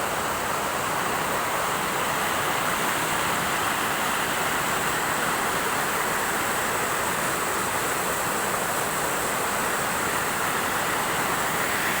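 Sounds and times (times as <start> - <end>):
river rushing over waterfall: 0.0 - 12.0.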